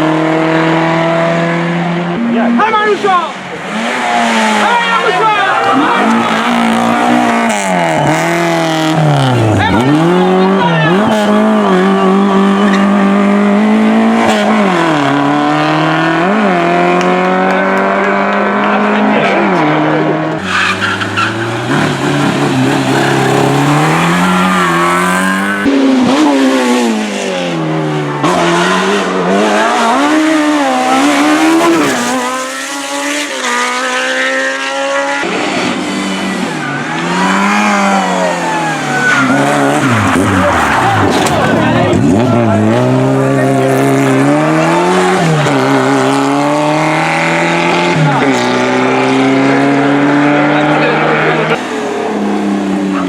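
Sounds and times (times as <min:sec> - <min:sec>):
race car engines at high revs: 0:00.0 - 0:53.0.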